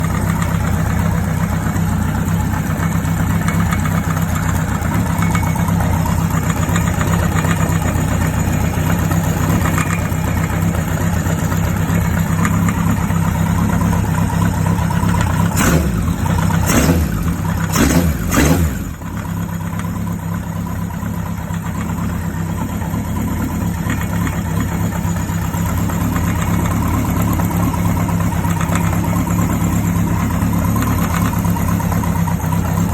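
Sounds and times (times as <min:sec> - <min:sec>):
mechanical engine noise: 0:00.0 - 0:32.9
motorcycle engine idling: 0:00.0 - 0:32.9.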